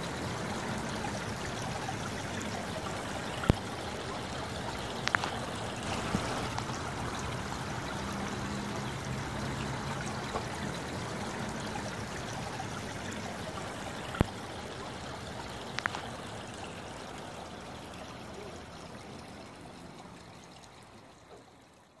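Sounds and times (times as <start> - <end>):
water trickling over rocks: 0.0 - 22.0.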